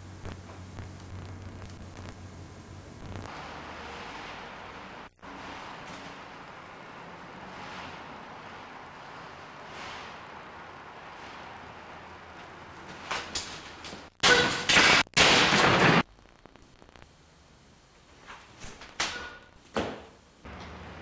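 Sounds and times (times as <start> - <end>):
tape hiss: 0.0 - 3.4, 4.6 - 14.2, 16.0 - 20.6.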